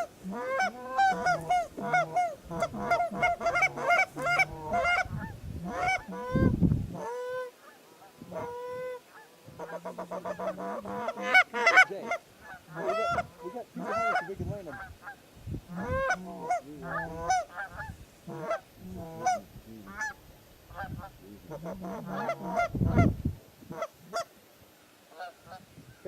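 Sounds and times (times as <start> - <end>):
geese honking: 0.0 - 26.0.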